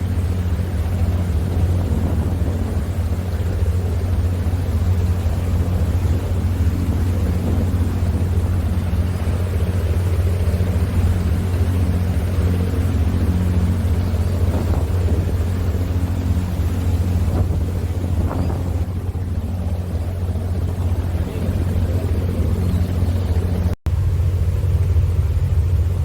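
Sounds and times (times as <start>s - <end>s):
wind noise: 0.0s - 23.8s
vehicle engine droning: 0.0s - 26.0s.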